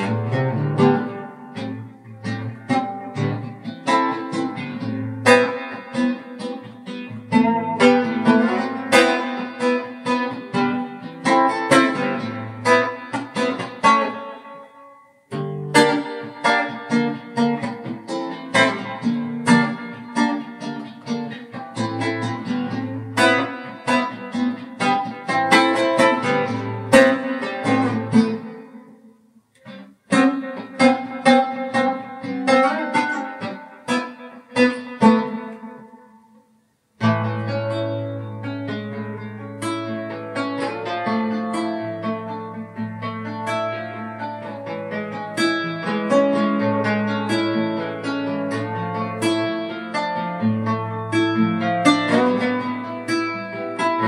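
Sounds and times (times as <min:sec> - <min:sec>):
solo guitar playing: 0:00.0 - 0:54.0.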